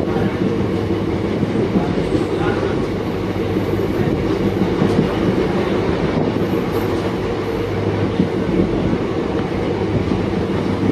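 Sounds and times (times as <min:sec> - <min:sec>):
train wheels rumbling on track: 0:00.0 - 0:10.9.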